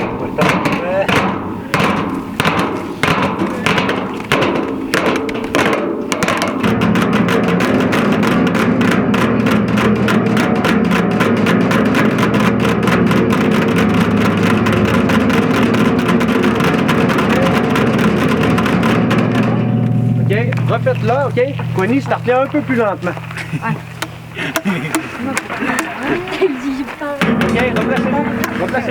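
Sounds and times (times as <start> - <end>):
sharp knocks: 0.0 - 26.1, 27.2 - 28.9
music with held tones and tapping: 0.0 - 28.9.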